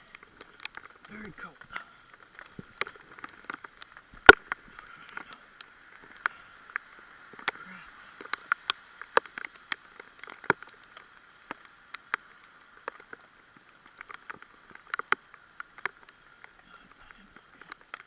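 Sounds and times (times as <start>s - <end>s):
faint steady hiss: 0.0s - 18.0s
raindrops pattering: 0.0s - 18.0s.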